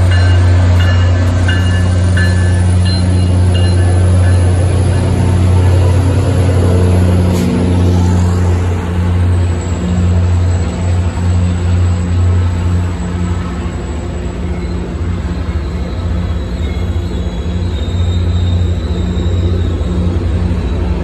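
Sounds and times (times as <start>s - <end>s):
diesel locomotive engine drone: 0.0s - 21.0s
passenger coaches rolling by: 0.0s - 21.0s.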